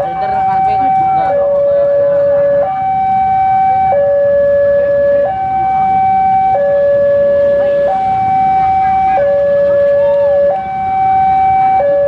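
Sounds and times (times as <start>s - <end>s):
two-tone siren: 0.0s - 12.0s.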